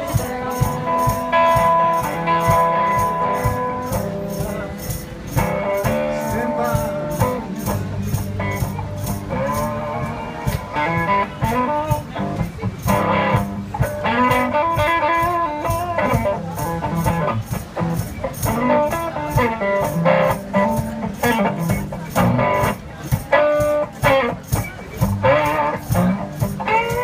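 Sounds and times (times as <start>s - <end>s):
blues guitar: 0.0s - 27.0s
percussion beat: 0.0s - 27.0s.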